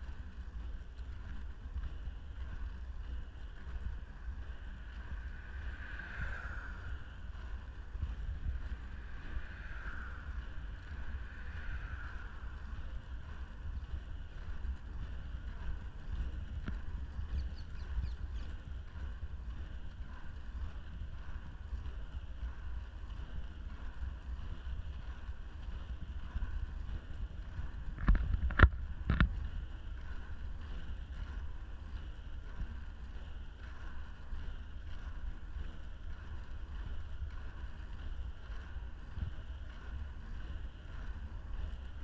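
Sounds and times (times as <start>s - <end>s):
skate wheels rolling on asphalt: 0.0s - 42.0s
wind buffeting microphone: 0.0s - 42.0s.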